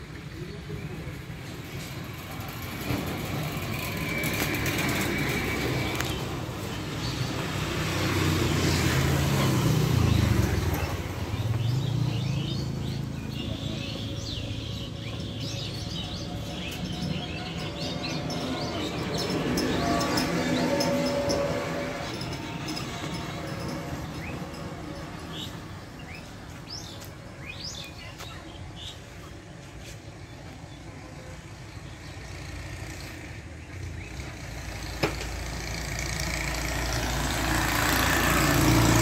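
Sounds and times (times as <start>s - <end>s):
birds chirping: 0.1s - 39.0s
motor vehicle passing: 2.1s - 27.0s, 32.3s - 39.0s.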